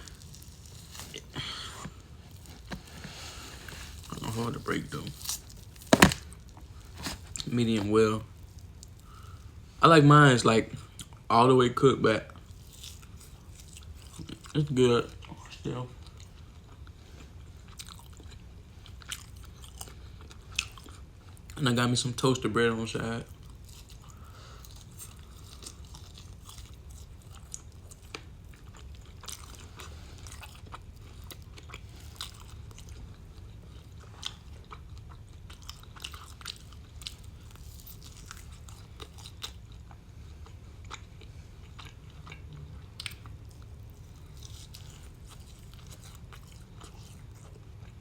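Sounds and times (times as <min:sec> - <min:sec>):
person chewing and biting: 0:00.0 - 0:09.6, 0:12.5 - 0:14.5, 0:17.6 - 0:21.5, 0:23.3 - 0:48.0
low steady hum: 0:00.0 - 0:48.0.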